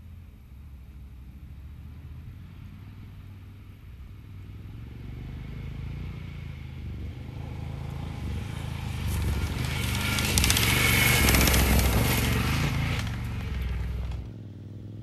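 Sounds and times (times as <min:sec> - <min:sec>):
motorcycle engine approaching: 0:00.0 - 0:15.0.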